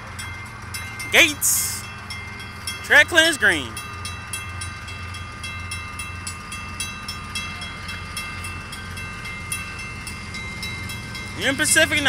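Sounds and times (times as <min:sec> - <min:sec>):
crossing warning bell ringing: 0:00.0 - 0:12.0
train rumble: 0:00.0 - 0:12.0.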